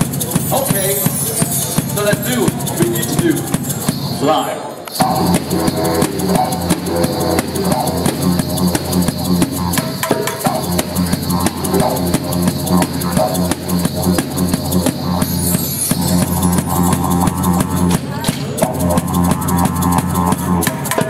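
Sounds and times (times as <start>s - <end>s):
drum beats: 0.0s - 21.0s
didgeridoo drone: 2.4s - 21.0s.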